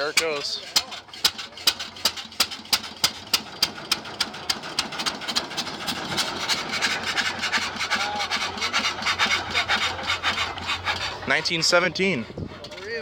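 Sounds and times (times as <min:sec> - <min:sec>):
hit-and-miss engine clattering: 0:00.0 - 0:13.0.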